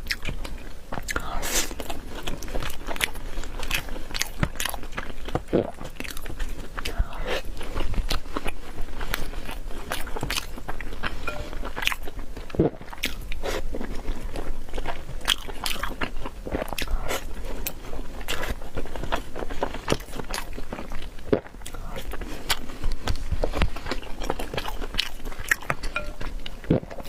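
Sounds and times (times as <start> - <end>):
crunchy food being chewed: 0.0 - 27.0.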